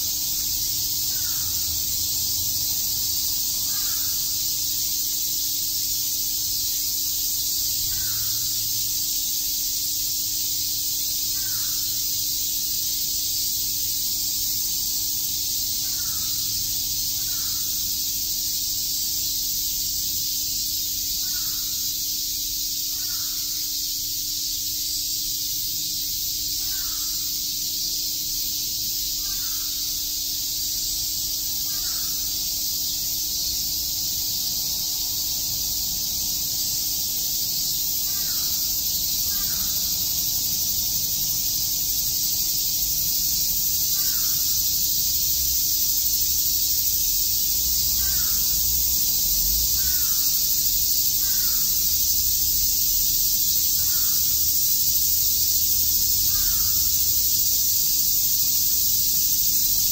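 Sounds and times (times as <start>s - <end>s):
cicadas sizzling: 0.0s - 59.9s.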